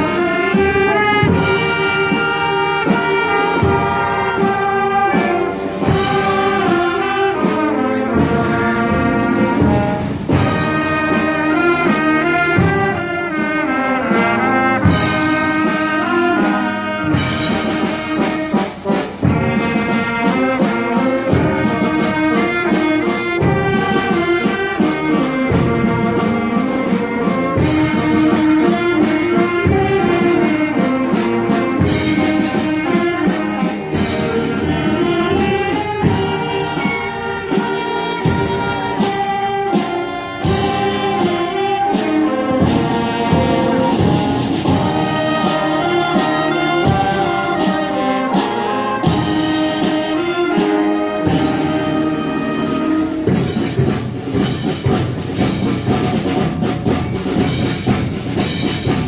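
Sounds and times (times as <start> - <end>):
steady percussion beat: 0.0 - 59.0
wind orchestra with brass: 0.0 - 59.0.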